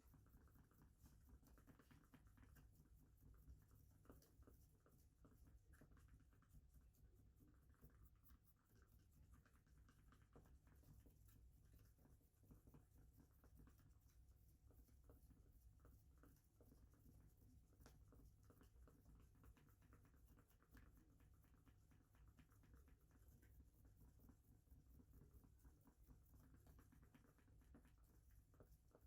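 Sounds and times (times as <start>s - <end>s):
faint light clicks and scratches: 0.0s - 29.0s.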